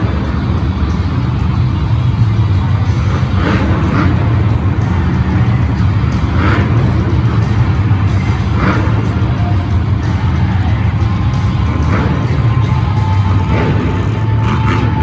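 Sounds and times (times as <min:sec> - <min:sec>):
monster truck engines rumbling: 0:00.0 - 0:15.0.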